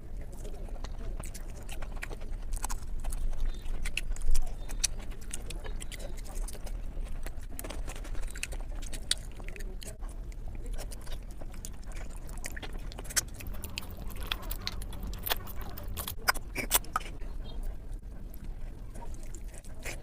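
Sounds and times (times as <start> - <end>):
wet chewing mouth clicks: 0.0 - 20.0.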